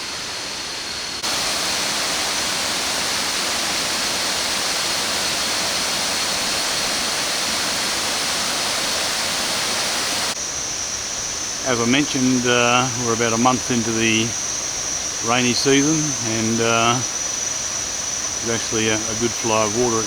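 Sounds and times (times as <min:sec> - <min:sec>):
waterfall rushing: 0:00.0 - 0:10.4, 0:11.1 - 0:20.0.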